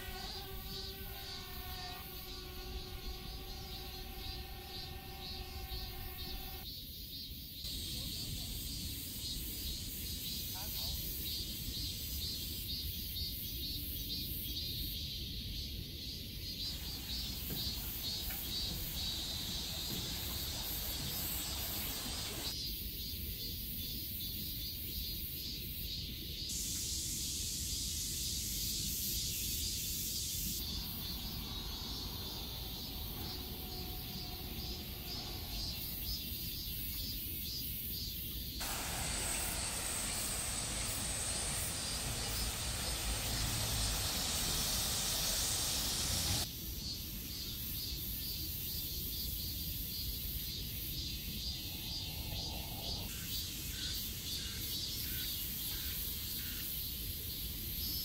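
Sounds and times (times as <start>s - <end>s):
outdoor hissing ambience: 0.0s - 58.0s.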